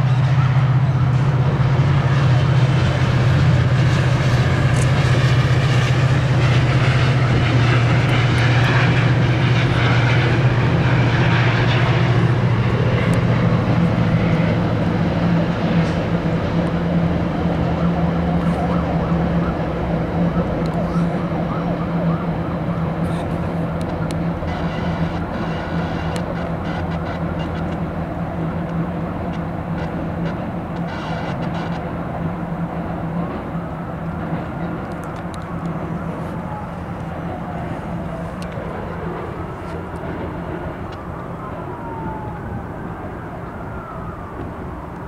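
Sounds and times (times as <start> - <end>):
low engine drone: 0.0 - 45.0
rushing noise: 0.0 - 45.0.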